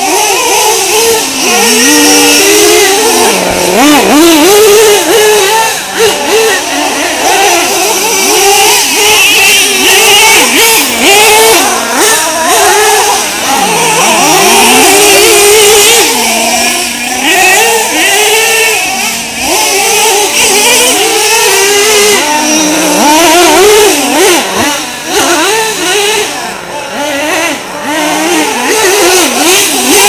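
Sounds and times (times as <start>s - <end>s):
small nitro engines buzzing: 0.0s - 30.0s.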